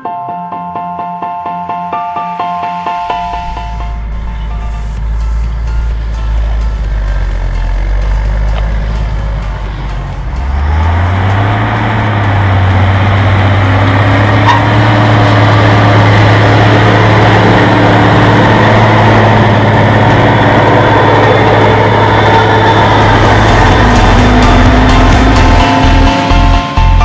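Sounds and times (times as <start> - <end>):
tractor diesel engine: 2.9 - 27.0.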